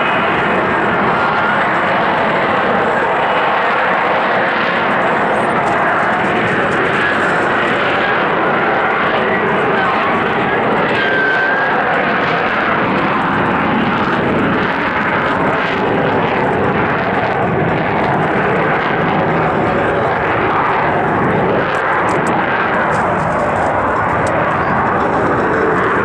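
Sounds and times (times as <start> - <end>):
jet engine running: 0.0 - 26.0.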